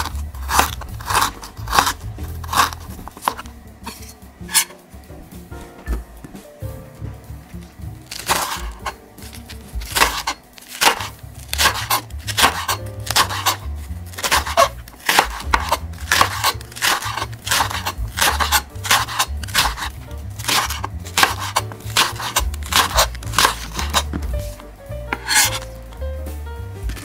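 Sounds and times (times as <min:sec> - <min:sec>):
knife chopping on wooden board: 0:00.0 - 0:04.7, 0:08.1 - 0:24.6, 0:25.2 - 0:25.7
soft background music: 0:00.0 - 0:27.0.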